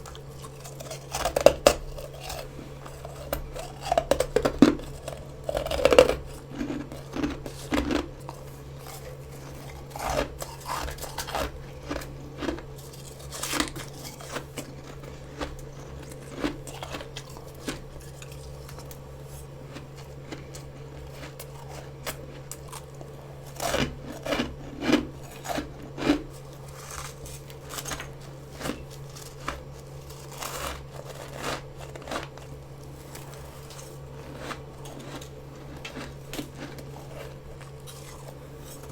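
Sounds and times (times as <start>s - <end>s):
frost crunching while chewed: 0.0s - 38.9s
steady low hum: 0.0s - 38.9s.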